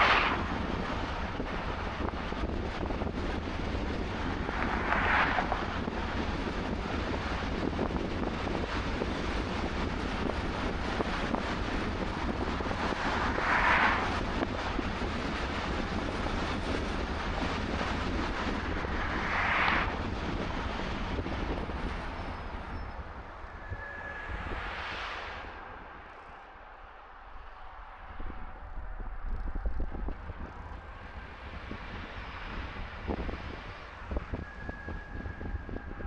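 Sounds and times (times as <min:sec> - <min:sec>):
passing cars whooshing: 0:00.0 - 0:07.5, 0:10.7 - 0:36.0
car road and wind noise: 0:00.0 - 0:36.0
engine and tyre rumble: 0:00.0 - 0:36.0.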